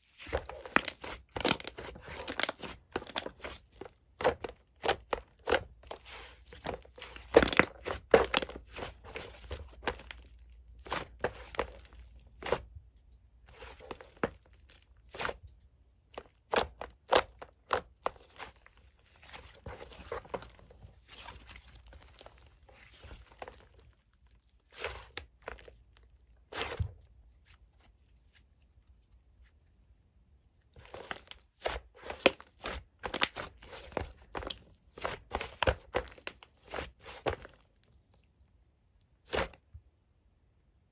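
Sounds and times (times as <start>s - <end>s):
hands squishing clay slime: 0.0s - 39.8s.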